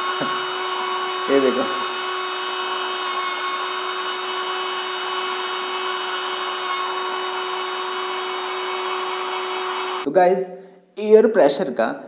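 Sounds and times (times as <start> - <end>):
small fan motor humming: 0.0 - 10.1.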